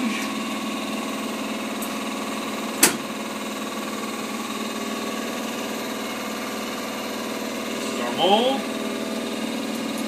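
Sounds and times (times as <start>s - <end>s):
electric motor hum: 0.0s - 10.0s.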